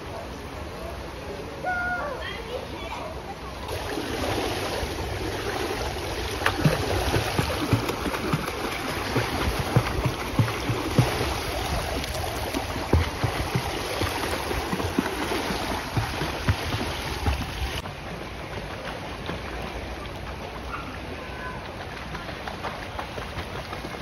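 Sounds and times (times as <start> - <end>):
pool water splashing: 0.0 - 24.0.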